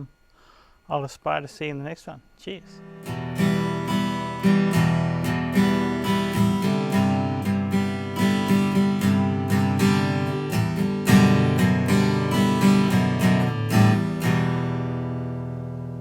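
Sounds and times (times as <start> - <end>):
strummed acoustic guitar: 2.8 - 16.0.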